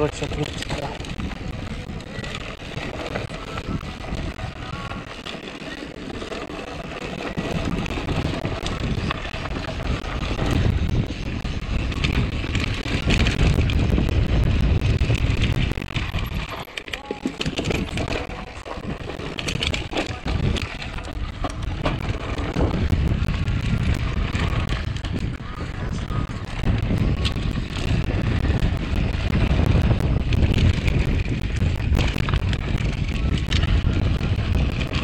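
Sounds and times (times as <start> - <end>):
wind buffeting microphone: 0.0 - 5.4, 6.0 - 16.7, 17.4 - 35.0
bike rattling: 0.0 - 35.0.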